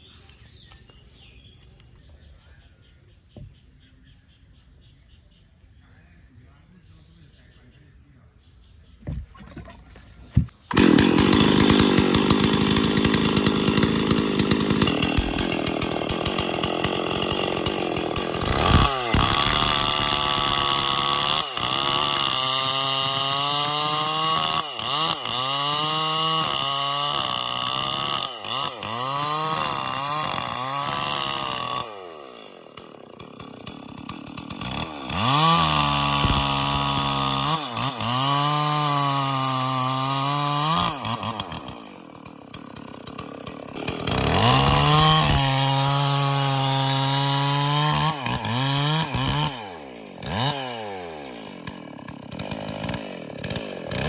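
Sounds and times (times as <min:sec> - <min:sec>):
chainsaw cutting at high revs: 0:09.4 - 0:54.0.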